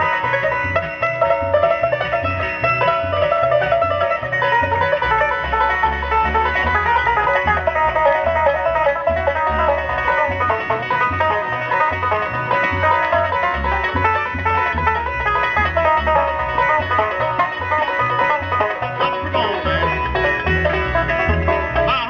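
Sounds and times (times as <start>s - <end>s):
banjo rolls: 0.0s - 22.0s
bluegrass band playing: 0.0s - 22.0s.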